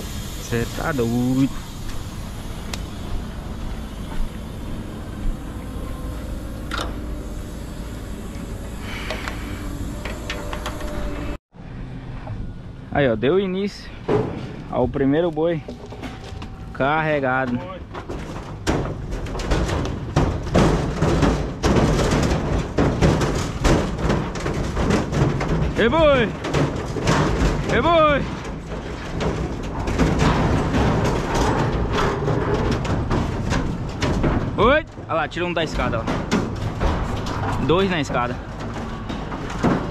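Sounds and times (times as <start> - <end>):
cattle hooves on trailer floor: 0.0 - 11.4, 13.0 - 39.9.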